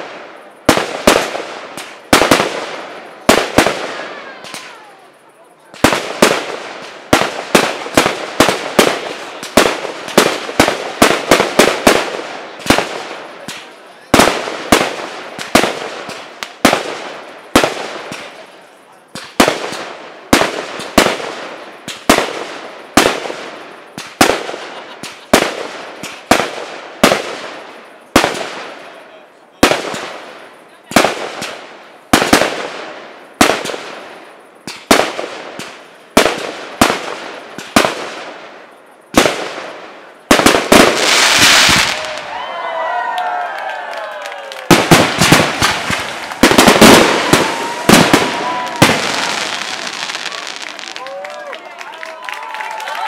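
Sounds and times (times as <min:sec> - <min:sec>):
firework shells bursting: 0:00.0 - 0:29.0, 0:29.7 - 0:42.3, 0:44.6 - 0:51.2.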